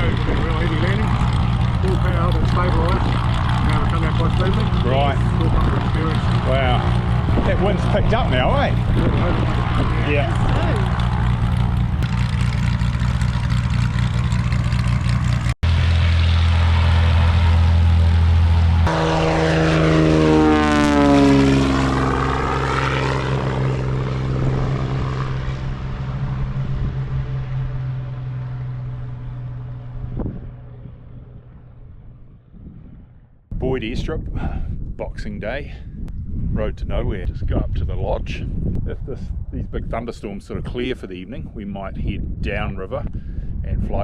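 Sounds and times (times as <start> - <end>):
propeller aircraft passing: 0.0 - 35.0, 35.7 - 44.0.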